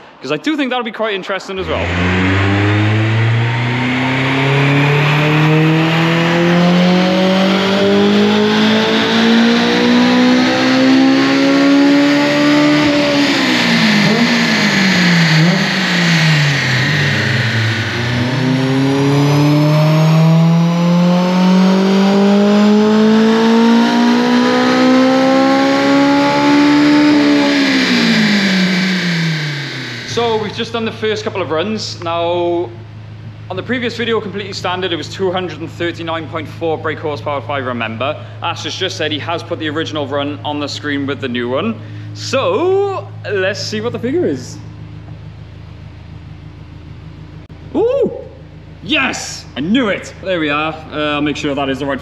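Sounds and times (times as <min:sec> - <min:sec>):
car engine revving: 0:01.2 - 0:52.0.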